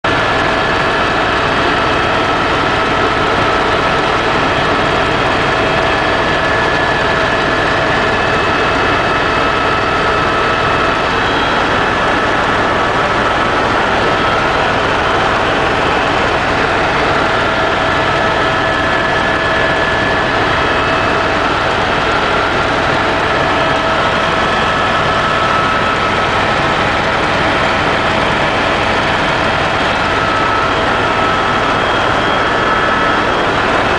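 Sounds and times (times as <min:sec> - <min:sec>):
helicopter engine and rotor drone: 0:00.0 - 0:33.9
constant whine: 0:00.1 - 0:33.9.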